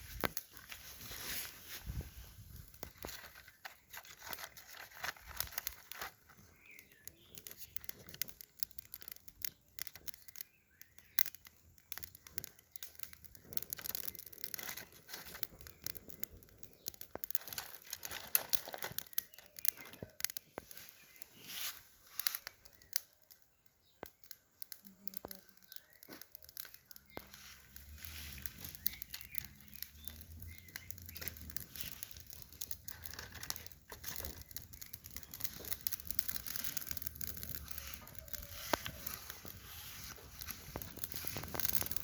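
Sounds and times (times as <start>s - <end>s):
rustling: 0.0s - 23.4s, 24.7s - 42.0s
twigs and firewood crackling: 0.0s - 42.0s.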